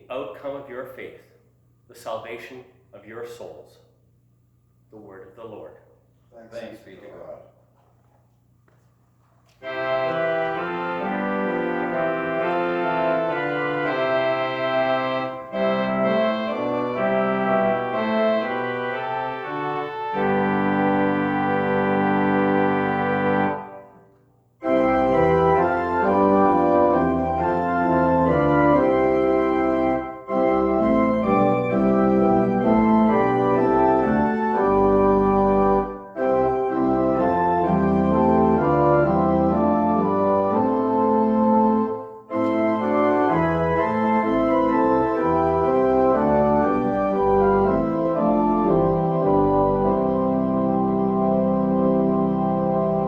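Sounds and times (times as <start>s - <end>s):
organ playing sustained chords: 9.6s - 53.0s.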